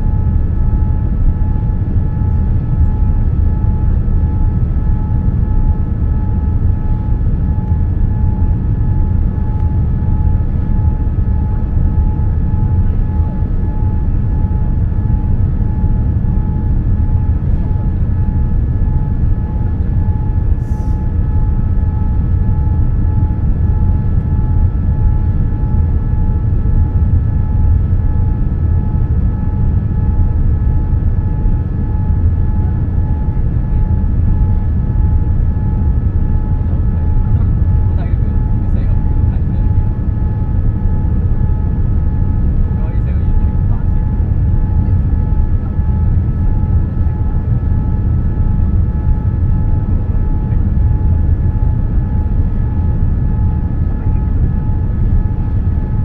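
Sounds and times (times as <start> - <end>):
deep rumble of engines and airflow: 0.0 - 56.0
steady whining tones: 0.0 - 56.0.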